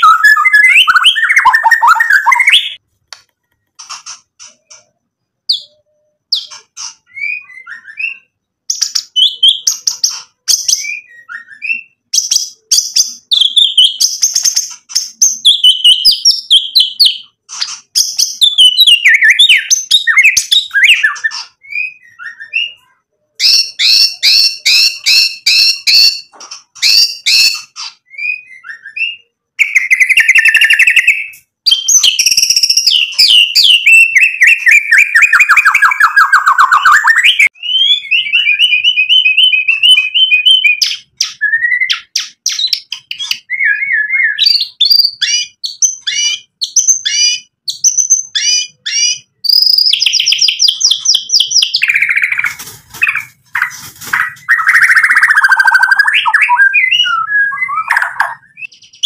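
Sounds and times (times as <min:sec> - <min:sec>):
bird singing whistled phrases: 0:00.0 - 0:02.8, 0:05.5 - 0:14.6, 0:15.2 - 0:17.3, 0:18.0 - 0:53.3, 0:54.2 - 0:59.0.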